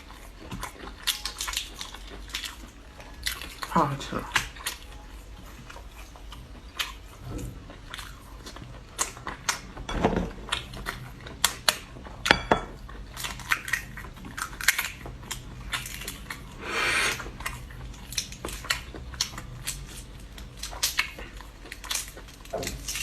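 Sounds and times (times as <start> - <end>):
chewing with sharp clicks: 0.0 - 9.8, 10.4 - 16.5, 17.2 - 23.0.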